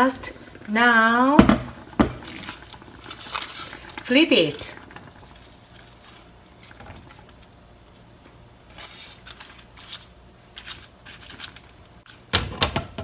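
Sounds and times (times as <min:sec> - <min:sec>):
soft steady hum: 0:00.0 - 0:12.3.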